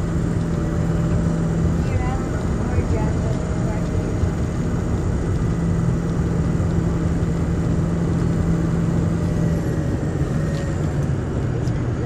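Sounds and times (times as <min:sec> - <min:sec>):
cooling fan drone: 0:00.0 - 0:12.0
diesel engine running: 0:00.0 - 0:12.0.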